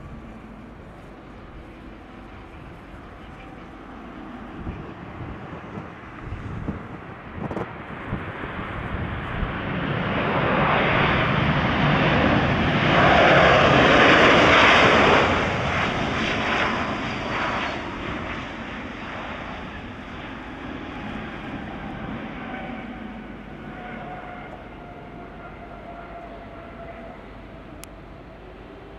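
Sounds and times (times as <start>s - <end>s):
jet engines during landing rollout: 0.0s - 28.9s.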